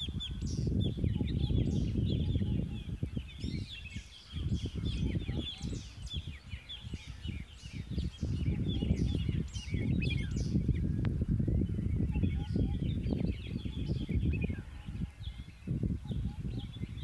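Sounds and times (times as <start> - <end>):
small birds chirping: 0.0 - 17.0
wind rumbling on microphone: 0.0 - 17.0.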